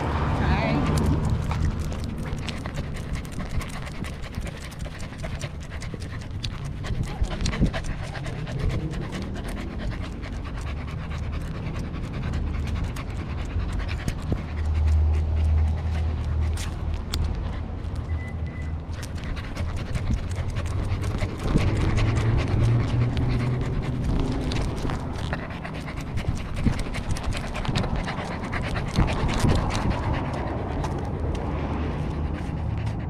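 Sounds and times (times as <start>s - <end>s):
dog panting: 0.0s - 33.0s
low rumble: 0.0s - 33.0s.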